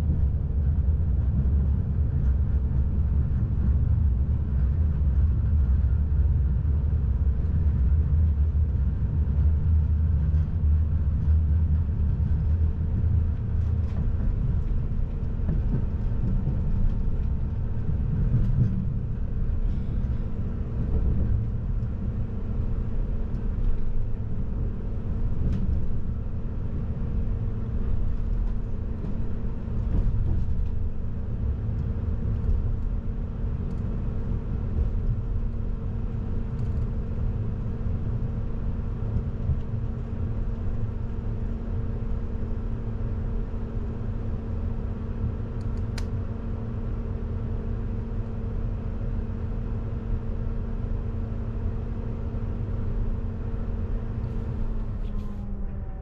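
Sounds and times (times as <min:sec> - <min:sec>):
constant electric hum: 0:00.0 - 0:56.0
train rumbling on track: 0:00.0 - 0:56.0.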